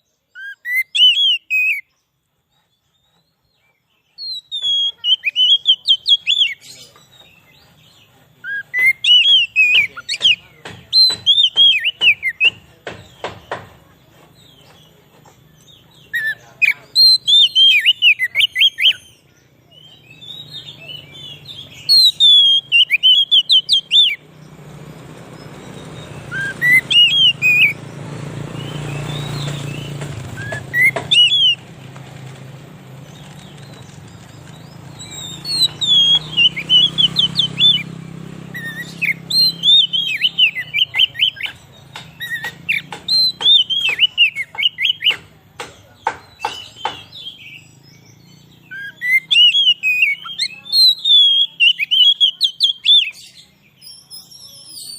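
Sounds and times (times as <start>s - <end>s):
sharp ticking bird notes: 0.0s - 54.9s
bird singing whistled phrases: 0.3s - 2.0s, 3.1s - 12.6s, 15.7s - 24.3s, 25.4s - 27.8s, 28.6s - 31.7s, 34.5s - 45.2s, 46.4s - 54.9s.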